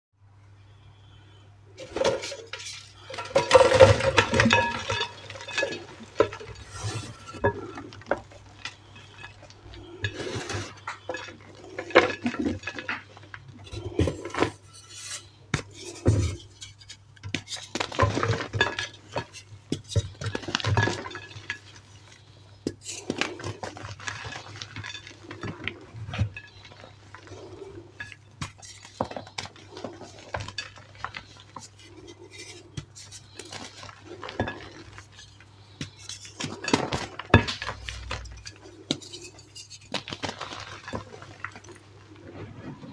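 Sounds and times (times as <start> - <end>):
chalk crunching and crumbling: 2.3 - 42.9.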